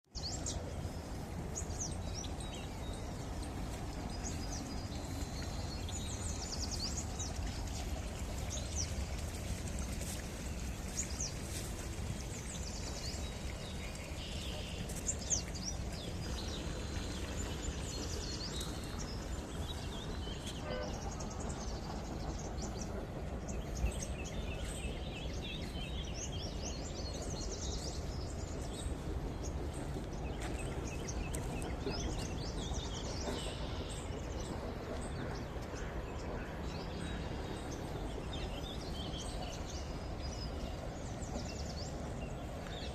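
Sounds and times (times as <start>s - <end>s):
birds chirping: 0.1s - 42.9s.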